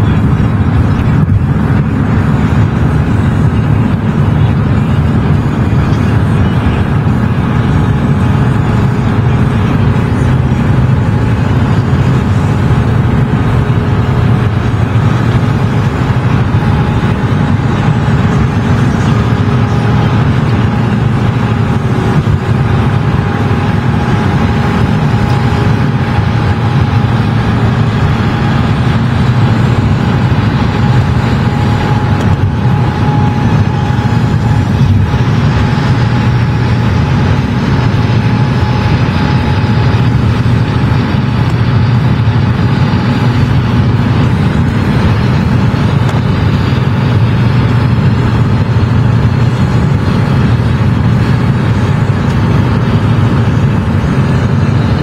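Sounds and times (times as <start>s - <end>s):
faint steady whine: 0.0s - 55.0s
road and engine noise: 0.0s - 55.0s.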